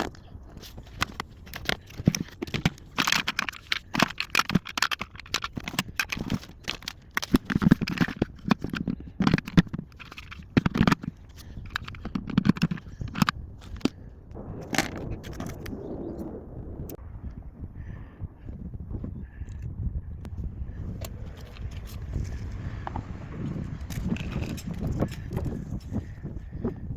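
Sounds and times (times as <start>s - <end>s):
handling clicks and knocks: 0.0s - 15.8s, 20.8s - 26.8s
crinkling: 0.0s - 16.2s, 20.7s - 26.7s.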